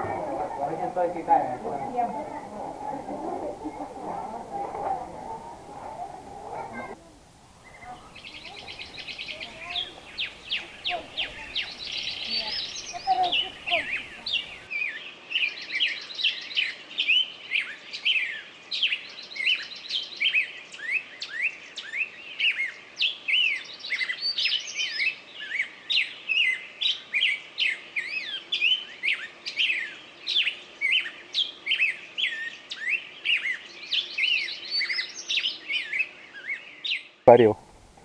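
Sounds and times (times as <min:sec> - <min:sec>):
songbirds chirping and trilling: 0:00.0 - 0:37.6.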